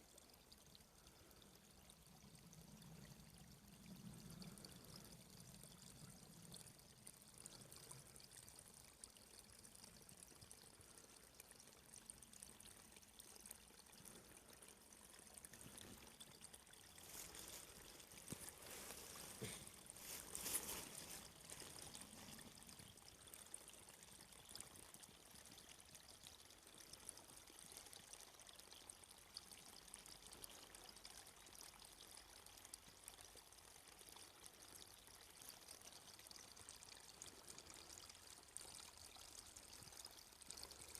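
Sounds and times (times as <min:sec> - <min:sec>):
faint running water: 0:00.0 - 0:40.9.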